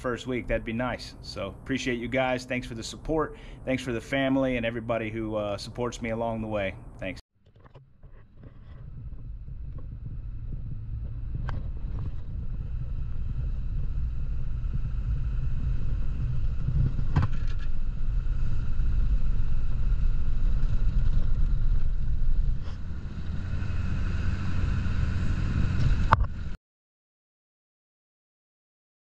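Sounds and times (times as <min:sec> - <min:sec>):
vehicle engine and tyres rumbling: 0:00.0 - 0:26.6.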